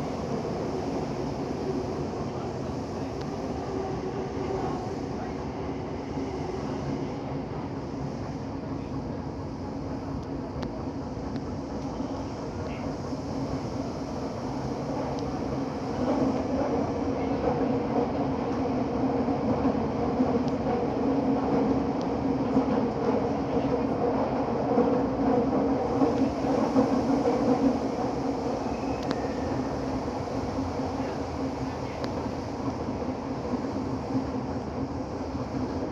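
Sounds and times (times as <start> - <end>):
train running from inside: 0.0 - 35.9.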